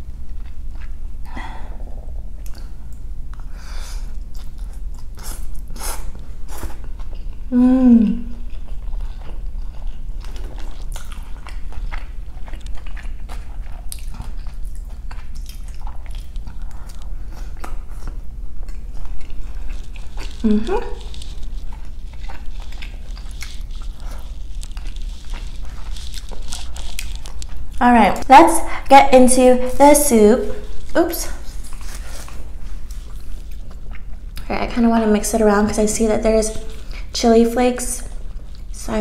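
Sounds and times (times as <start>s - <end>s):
close chewing and mouth sounds: 0.0s - 1.3s, 2.1s - 39.0s.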